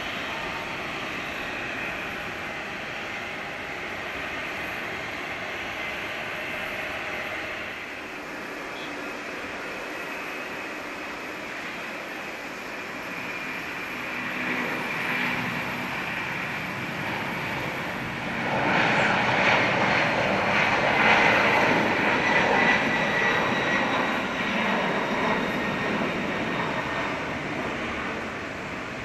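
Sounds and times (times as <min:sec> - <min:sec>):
jet engines rushing: 0:00.0 - 0:29.0.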